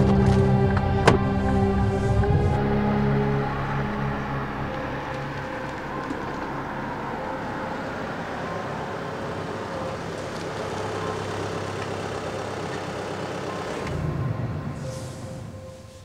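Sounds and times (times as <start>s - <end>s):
car driving in: 0.0s - 16.0s.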